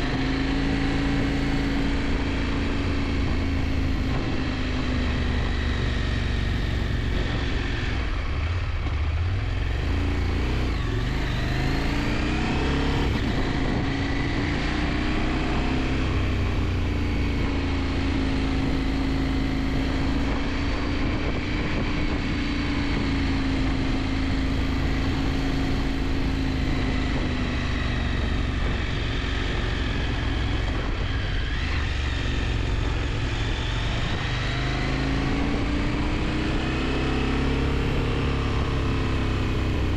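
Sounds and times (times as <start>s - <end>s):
heavy wind rush: 0.0s - 39.9s.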